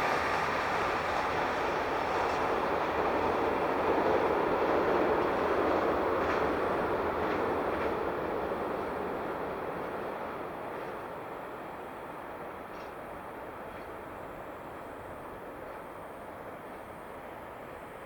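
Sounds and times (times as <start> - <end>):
diesel train running on rails: 0.0 - 18.0.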